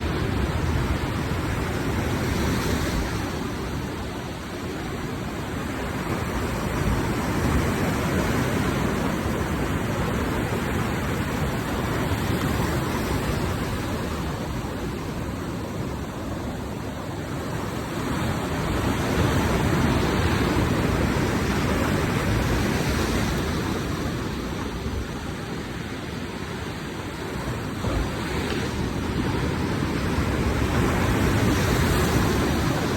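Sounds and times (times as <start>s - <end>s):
sea waves breaking on shore: 0.0s - 32.9s.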